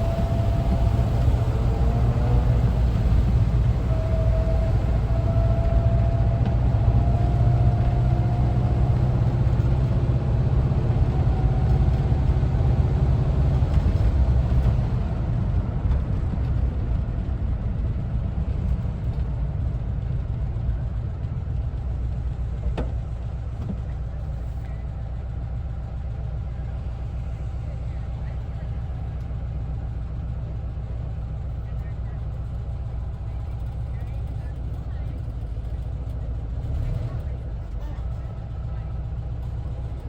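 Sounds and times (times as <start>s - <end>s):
van engine driving: 0.0s - 40.0s.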